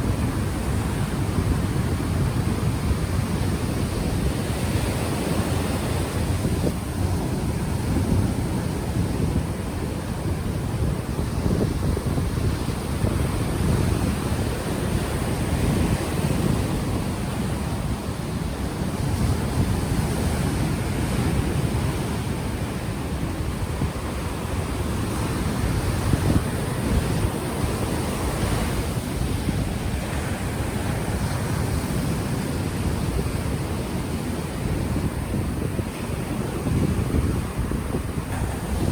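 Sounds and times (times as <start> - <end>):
ocean waves washing ashore: 0.0 - 38.9
wind buffeting microphone: 0.0 - 38.9.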